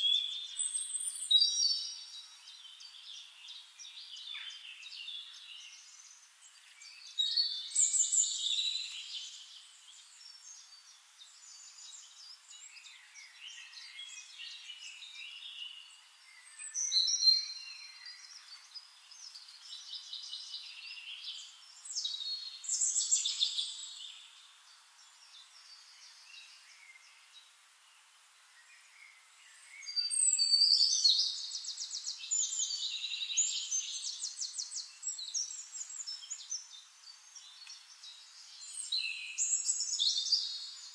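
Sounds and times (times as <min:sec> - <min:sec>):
birds chirping and singing: 0:00.0 - 0:40.9.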